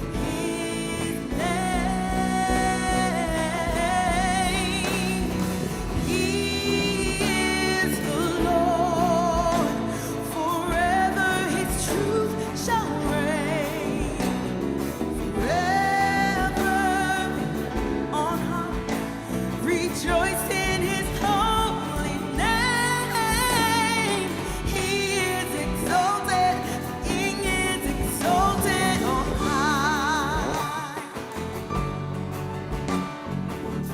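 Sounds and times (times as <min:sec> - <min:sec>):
people singing with vibrato: 0:00.0 - 0:32.3
band playing worship music: 0:00.0 - 0:33.9.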